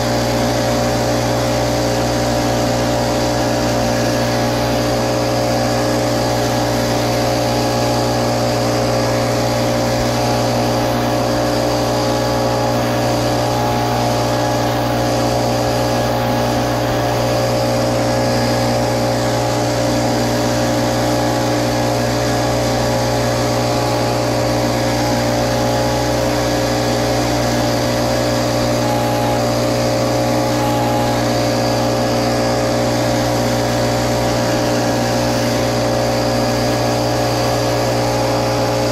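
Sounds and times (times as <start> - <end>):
leaf blower engine running: 0.0 - 38.9.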